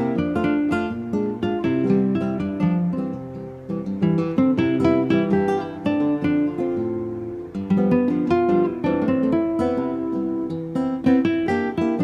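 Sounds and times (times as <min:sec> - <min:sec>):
acoustic guitar plucked melody: 0:00.0 - 0:12.0.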